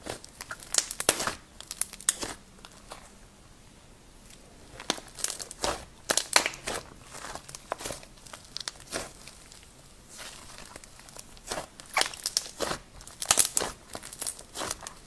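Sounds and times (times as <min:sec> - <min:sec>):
slime crackling and popping: 0:00.0 - 0:02.8, 0:04.7 - 0:15.0.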